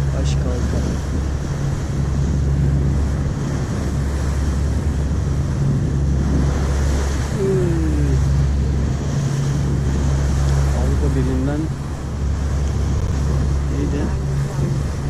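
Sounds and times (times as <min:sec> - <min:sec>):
ship engines droning: 0:00.0 - 0:15.0
wind and water rushing along hull: 0:00.0 - 0:15.0.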